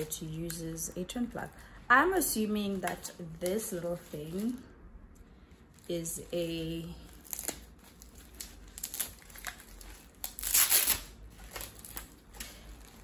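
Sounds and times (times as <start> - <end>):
plastic packaging crinkling: 0.0 - 4.8, 5.5 - 13.0.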